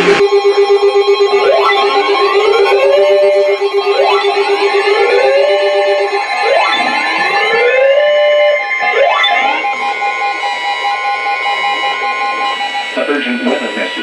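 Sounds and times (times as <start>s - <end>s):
siren-like rising sweeps: 0.0s - 14.0s
steady electronic alert tones: 0.0s - 14.0s
short beeps: 0.2s - 7.7s, 8.3s - 14.0s.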